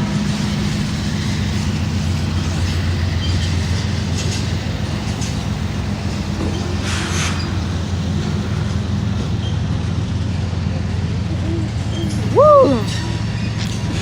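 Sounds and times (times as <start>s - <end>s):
freight train rumbling past: 0.0s - 14.0s
train wheels screeching: 0.0s - 14.0s.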